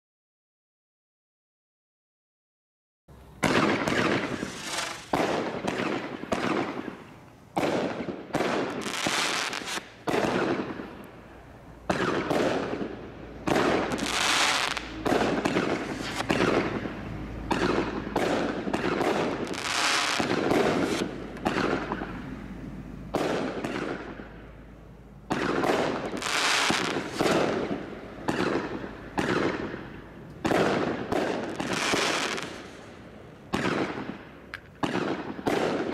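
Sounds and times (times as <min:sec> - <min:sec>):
firework shots banging: 0:03.2 - 0:35.9.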